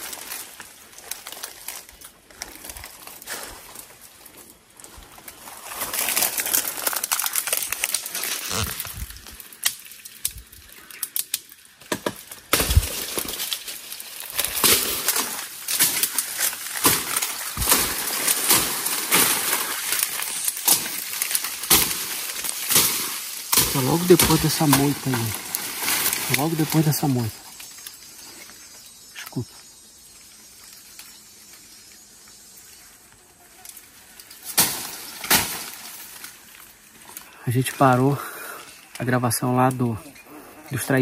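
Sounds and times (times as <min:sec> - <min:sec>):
twigs and branches snapping: 0:00.0 - 0:29.4, 0:30.0 - 0:32.4, 0:33.1 - 0:38.0
leaves rustling: 0:00.0 - 0:41.0.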